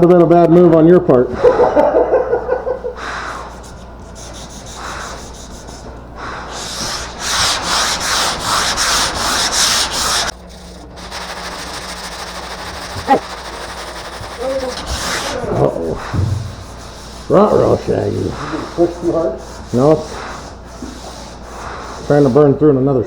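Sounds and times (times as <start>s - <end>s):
sandpaper rubbing on filler: 3.0s - 22.8s.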